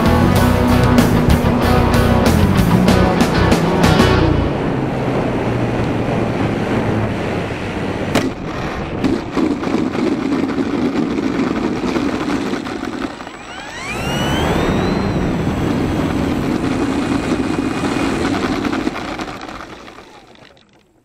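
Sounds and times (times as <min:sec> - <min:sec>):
low hum: 0:00.0 - 0:21.0
wheels rolling on asphalt: 0:00.0 - 0:21.0
wind rush over microphone: 0:03.3 - 0:20.2.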